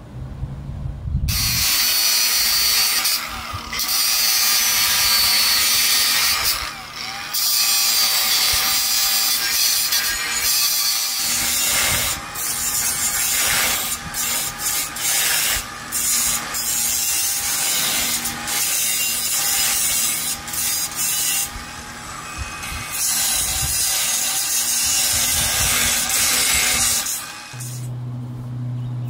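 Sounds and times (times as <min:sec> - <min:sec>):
angle grinder grinding steel: 0:01.3 - 0:28.0.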